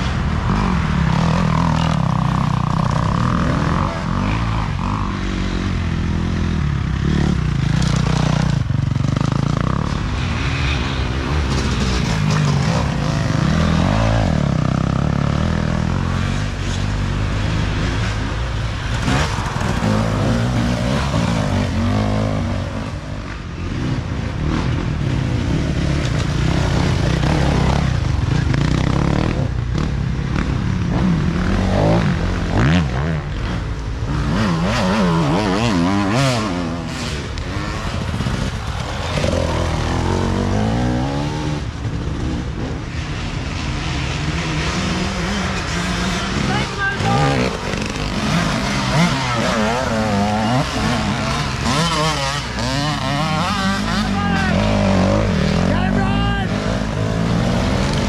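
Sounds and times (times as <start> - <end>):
dirt bikes revving past: 0.0 - 58.0.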